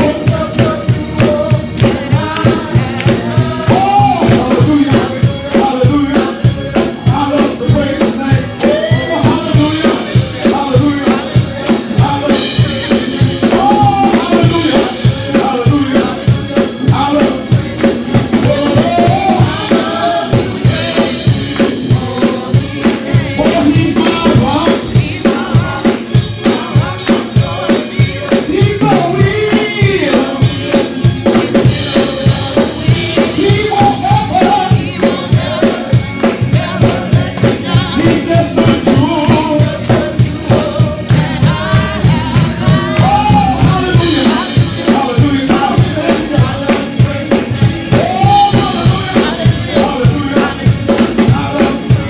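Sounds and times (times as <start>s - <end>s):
band with driving beat: 0.0s - 52.0s
man singing through microphone: 0.0s - 52.0s.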